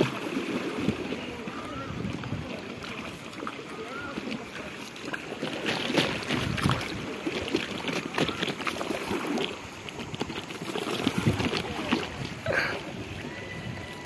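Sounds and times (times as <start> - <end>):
paddle splashing water: 0.0 - 14.0
river current rushing: 0.0 - 14.0.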